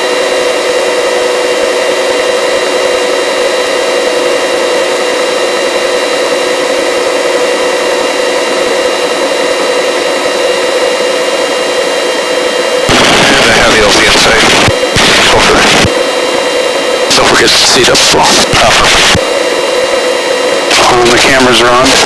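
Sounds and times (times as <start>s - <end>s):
helicopter turbine and rotors: 0.0s - 22.0s.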